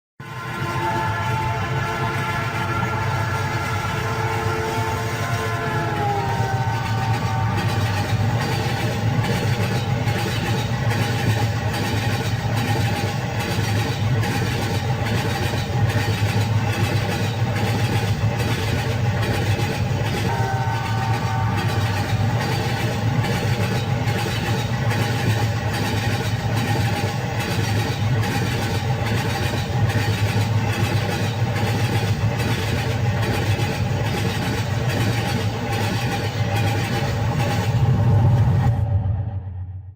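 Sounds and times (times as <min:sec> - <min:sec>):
freight train rumbling: 0:00.2 - 0:39.9.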